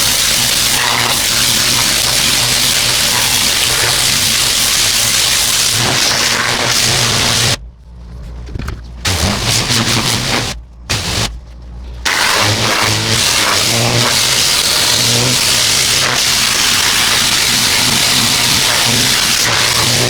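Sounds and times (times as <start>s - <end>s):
pressure washer spray hissing: 0.0s - 7.6s, 9.1s - 11.3s, 12.1s - 20.0s.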